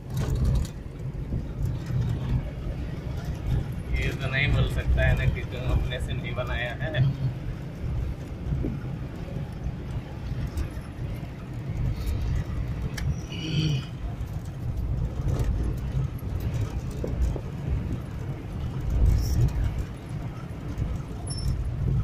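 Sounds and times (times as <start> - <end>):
body knocks and rattles: 0.0 - 5.9, 7.0 - 22.0
vehicle rumbling on dirt track: 0.0 - 22.0.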